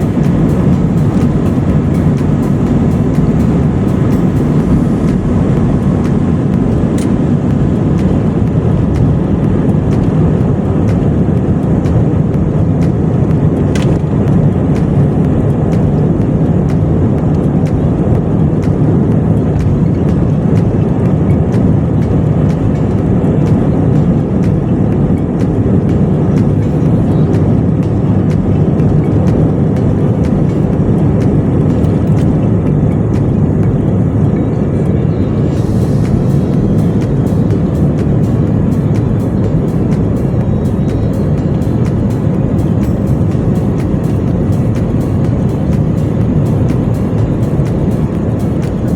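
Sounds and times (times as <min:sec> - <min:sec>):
jet airliner cabin rumble: 0:00.0 - 0:48.9.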